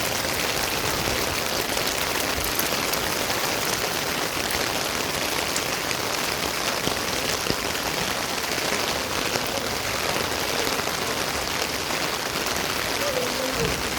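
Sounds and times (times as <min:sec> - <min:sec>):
rain falling: 0:00.0 - 0:13.9
raindrop ticks: 0:00.1 - 0:05.8, 0:06.6 - 0:13.9.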